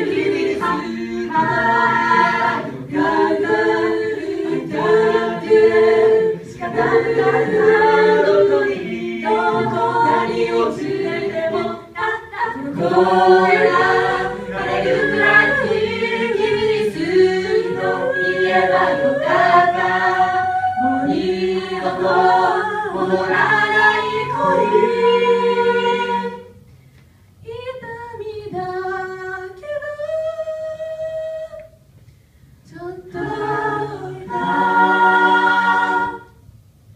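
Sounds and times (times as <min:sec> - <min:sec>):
a cappella group singing in harmony: 0:00.0 - 0:26.8, 0:27.4 - 0:31.9, 0:32.6 - 0:36.5.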